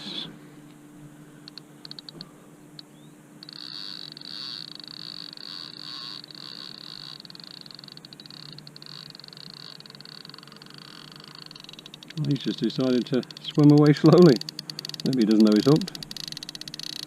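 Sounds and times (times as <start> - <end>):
fishing reel drag ticking: 1.4 - 17.0.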